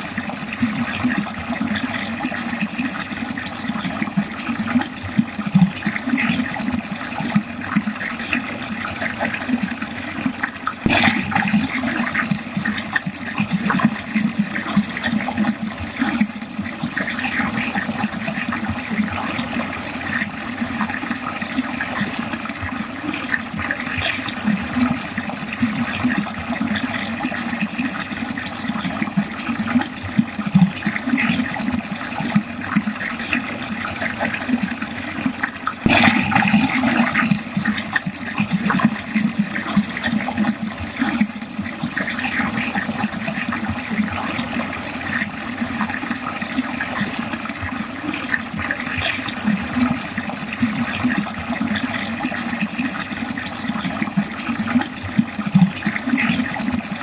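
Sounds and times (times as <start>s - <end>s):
water flowing down a drain: 0.0s - 57.0s.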